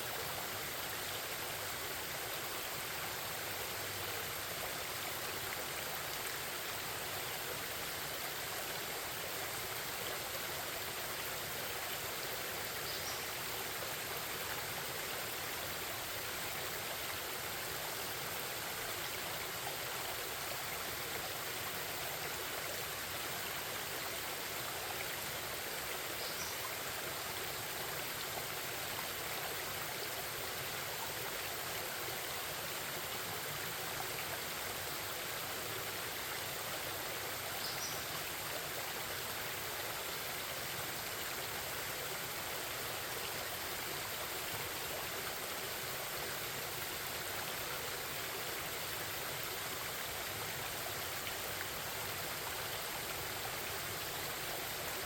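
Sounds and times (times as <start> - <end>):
stream babbling over rocks: 0.0 - 55.0.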